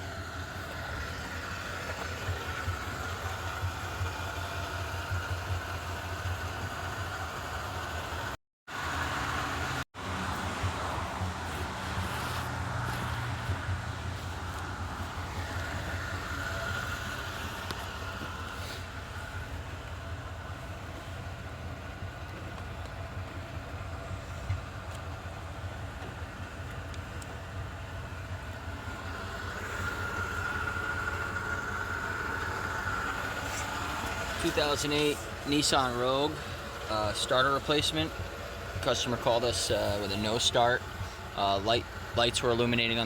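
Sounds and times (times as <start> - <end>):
motor vehicle rumble: 0.0 - 43.0.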